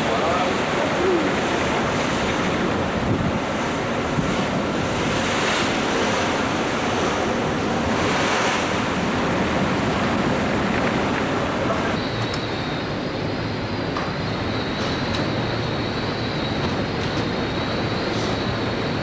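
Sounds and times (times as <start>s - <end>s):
sea rushing: 0.0s - 19.0s
wind across microphone: 0.0s - 19.0s.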